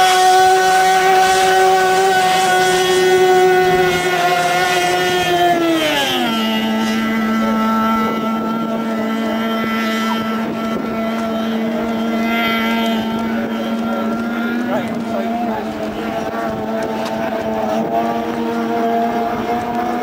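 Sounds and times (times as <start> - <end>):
boat engine at high revs: 0.0 - 20.0.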